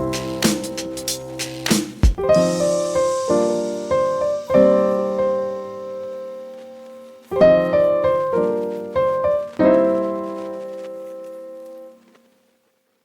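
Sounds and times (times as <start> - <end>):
slow piano chords: 0.0 - 12.3.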